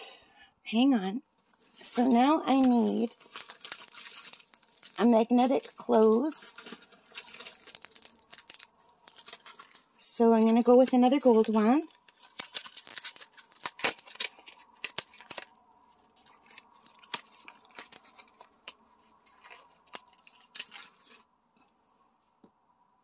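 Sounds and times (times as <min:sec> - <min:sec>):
plastic packaging crinkling: 0:01.5 - 0:21.3.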